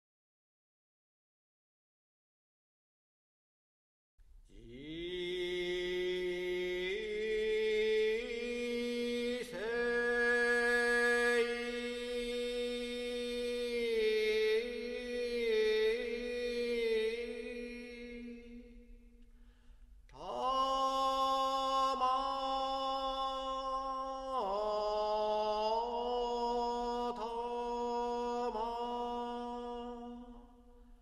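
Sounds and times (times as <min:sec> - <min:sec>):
person chanting: 0:04.5 - 0:19.2, 0:20.1 - 0:31.0.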